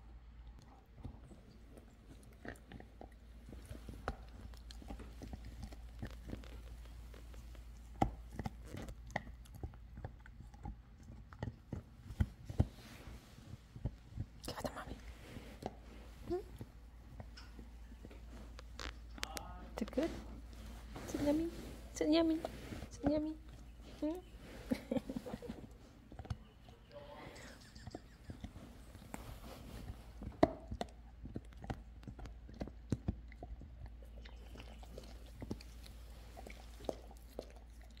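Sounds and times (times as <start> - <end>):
dog gnawing rubber chew toy: 0.5 - 20.6, 25.6 - 38.0.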